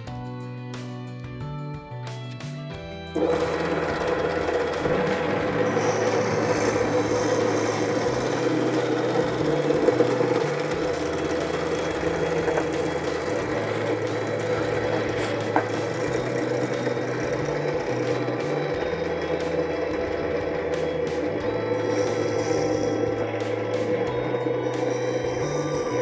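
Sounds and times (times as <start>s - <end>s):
drill press boring into wood: 3.2s - 26.0s.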